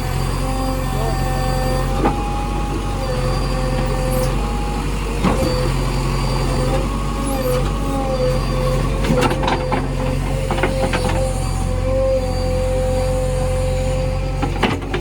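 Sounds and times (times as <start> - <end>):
diesel engine whining: 0.0 - 15.0.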